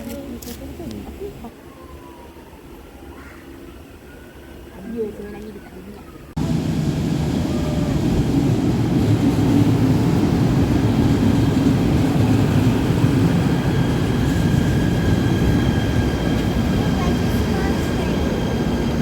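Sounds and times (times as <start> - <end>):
electric train rumbling: 0.8 - 19.0.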